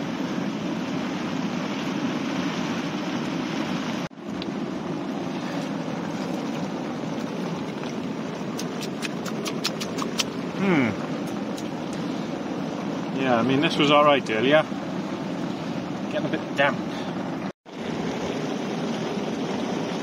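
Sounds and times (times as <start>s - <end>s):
heavy rain on a tent: 0.0s - 9.6s, 10.2s - 20.0s.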